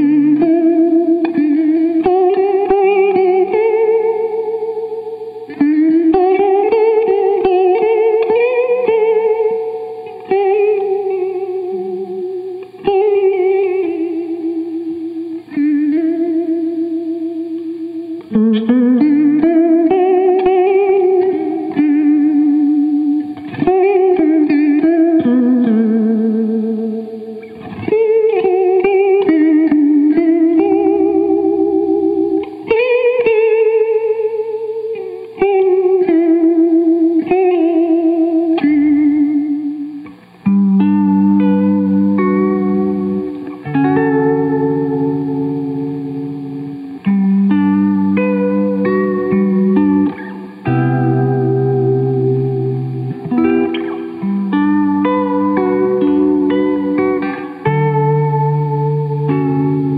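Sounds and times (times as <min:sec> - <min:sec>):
electric guitar with chorus: 0:00.0 - 0:59.9.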